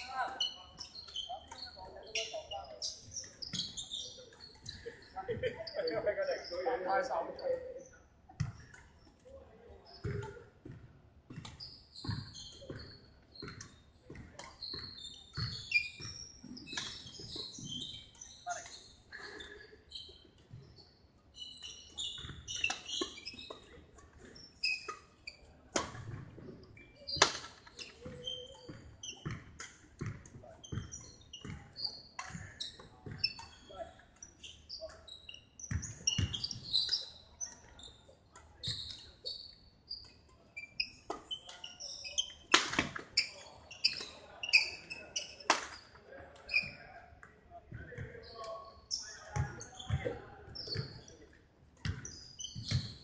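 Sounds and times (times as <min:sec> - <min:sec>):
shoes squeaking on floor: 0:00.0 - 0:08.8, 0:09.9 - 0:47.1, 0:47.7 - 0:53.0.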